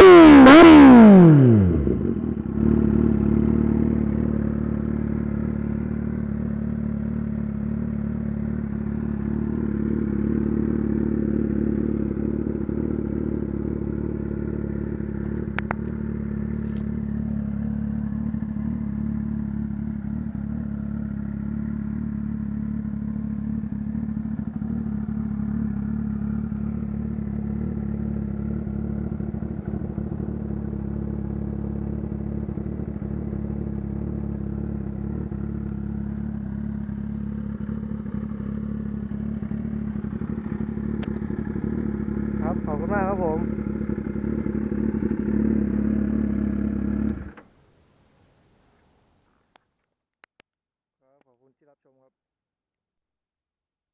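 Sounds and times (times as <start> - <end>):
motorcycle engine running: 0.0 - 47.5.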